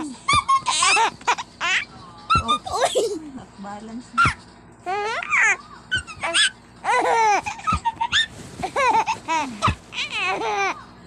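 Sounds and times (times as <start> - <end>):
baby laughing: 0.0 - 3.2, 4.2 - 10.8.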